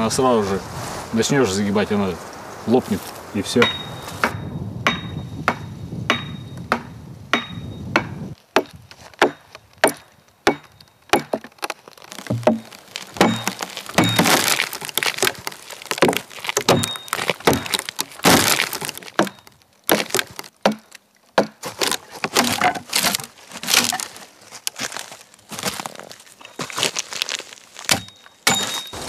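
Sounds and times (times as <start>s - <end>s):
wood splitting blows and cracks: 3.6s - 29.0s.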